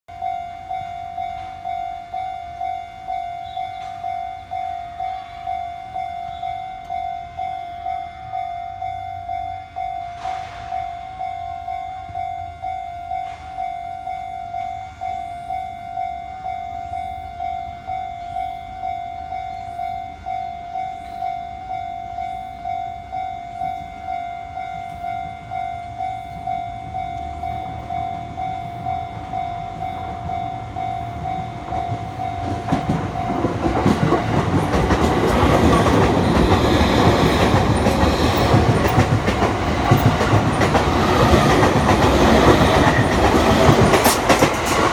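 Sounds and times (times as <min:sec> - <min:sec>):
level-crossing warning bell: 0:00.1 - 0:44.9
train running noise: 0:00.1 - 0:44.9.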